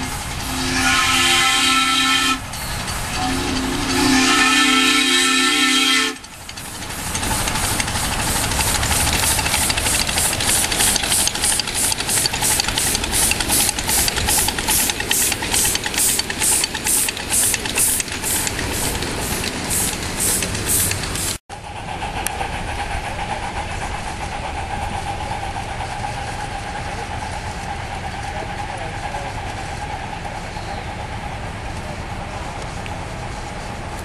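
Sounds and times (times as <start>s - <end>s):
steam hissing: 0.0s - 33.9s
steam locomotive chuffing: 0.0s - 34.0s.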